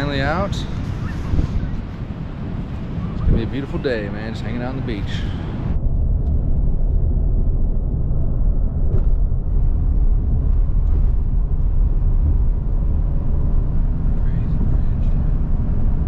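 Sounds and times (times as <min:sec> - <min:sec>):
car road rumble from inside: 0:00.0 - 0:16.0.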